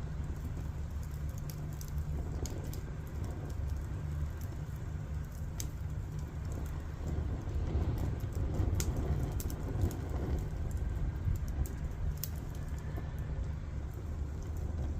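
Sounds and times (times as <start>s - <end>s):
burning logs crackling and popping: 0.0s - 14.9s
fire low rumble: 0.0s - 14.9s.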